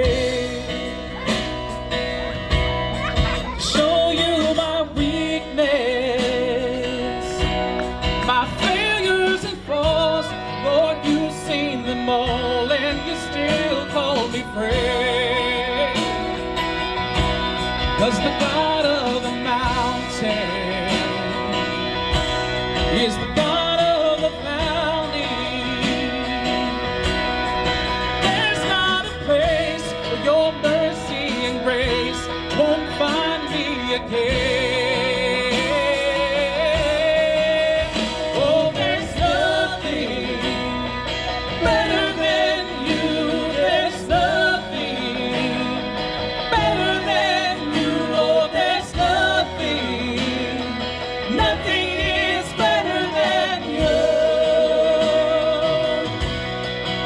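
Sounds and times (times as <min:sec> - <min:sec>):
person singing with vibrato: 0:00.0 - 0:56.6
worship band music: 0:00.0 - 0:57.0.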